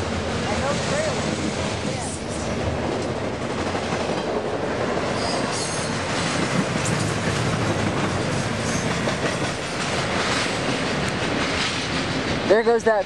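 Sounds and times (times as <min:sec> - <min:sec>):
steel train wheels on rails: 0:00.0 - 0:13.0.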